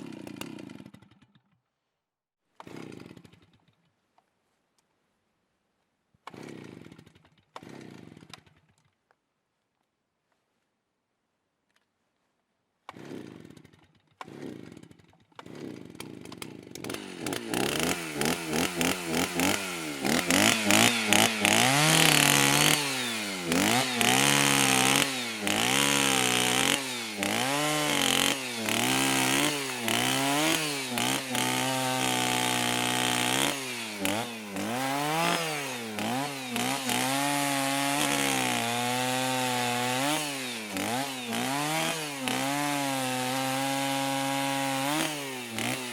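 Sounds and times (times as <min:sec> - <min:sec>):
chainsaw engine starting and revving: 0:00.0 - 0:01.6, 0:02.6 - 0:04.0, 0:06.2 - 0:09.0, 0:12.8 - 0:45.9.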